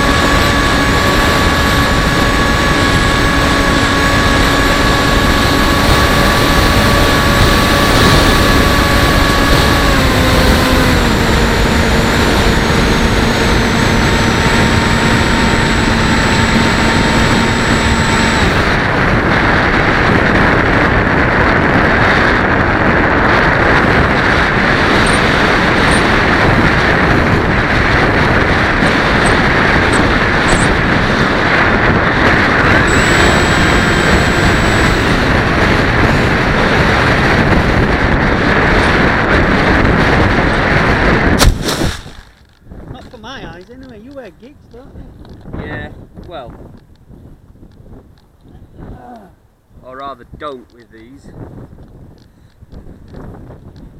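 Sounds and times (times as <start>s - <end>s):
electric motor and propeller: 0.0s - 53.9s
wind rushing over microphone: 0.0s - 53.9s.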